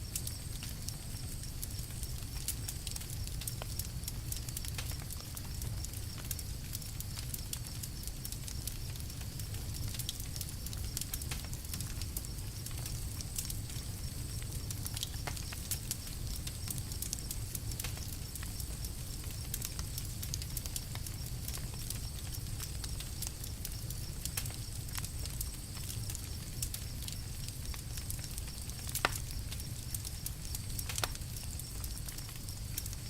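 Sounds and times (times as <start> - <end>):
campfire crackling: 0.0 - 33.0
fire pops and snaps: 0.0 - 33.0.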